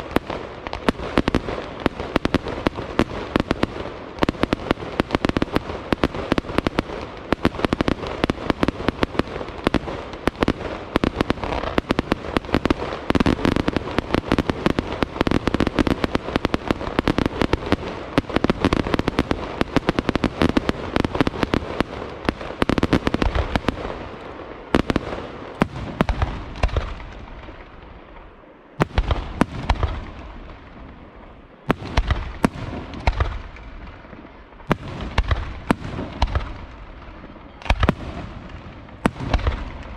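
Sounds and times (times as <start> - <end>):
fireworks bursts and crackling bangs: 0.0 - 39.9.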